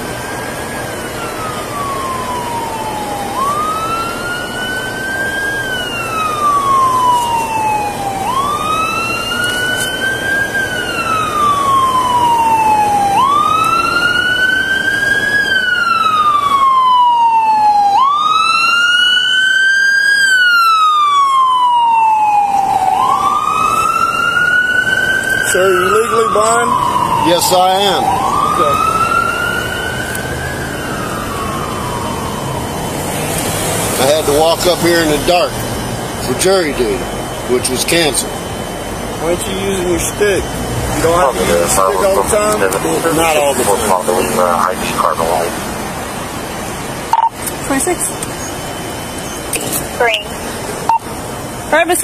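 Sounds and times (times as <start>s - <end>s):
siren wailing: 0.0s - 46.5s.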